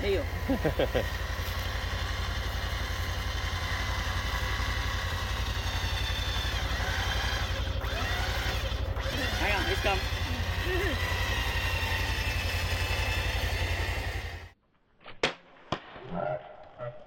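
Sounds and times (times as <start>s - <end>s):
engine idling with fast low pulse: 0.0s - 14.6s.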